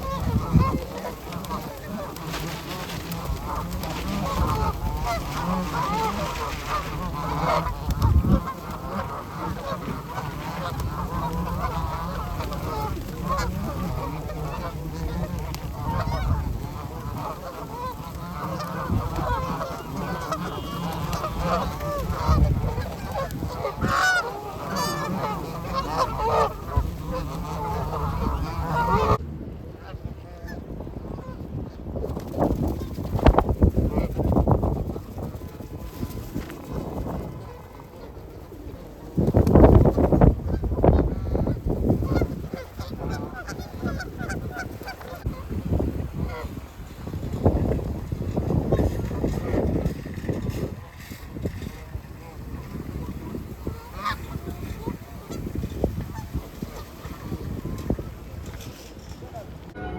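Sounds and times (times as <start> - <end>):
geese honking: 0.0 - 29.2, 32.4 - 59.9.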